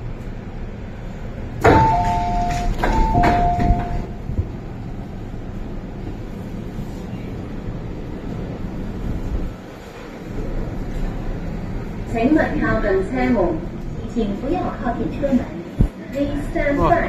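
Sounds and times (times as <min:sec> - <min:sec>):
low train hum: 0:00.0 - 0:17.0.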